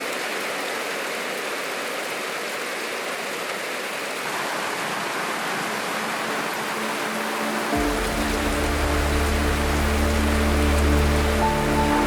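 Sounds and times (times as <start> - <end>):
steady rainfall: 0.0 - 12.0.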